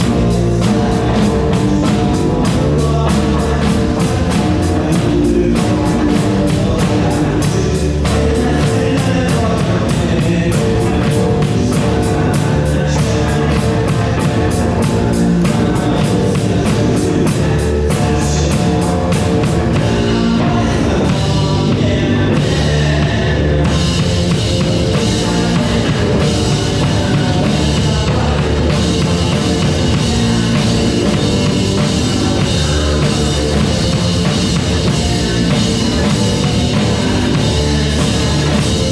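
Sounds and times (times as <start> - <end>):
rock music: 0.0 - 38.9.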